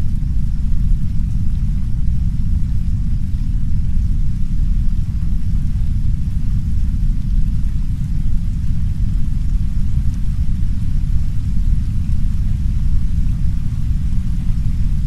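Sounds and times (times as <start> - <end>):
deep brown noise rumble: 0.0 - 15.0
soft rain against a window: 0.0 - 15.0.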